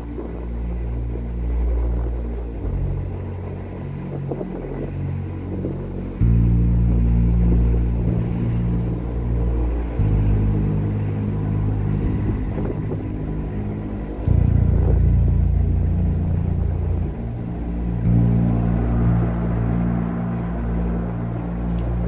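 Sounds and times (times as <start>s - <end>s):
ship diesel engine drone: 0.0s - 22.0s.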